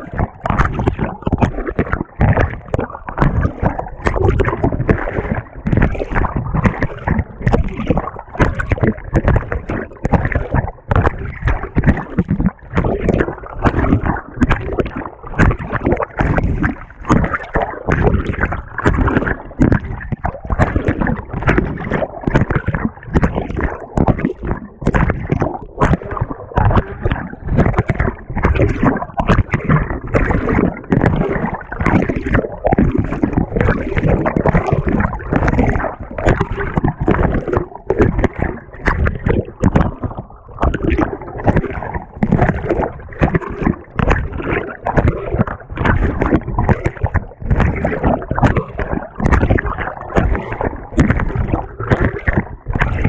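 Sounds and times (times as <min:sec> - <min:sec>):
washing machine water sloshing: 0:00.0 - 0:53.0.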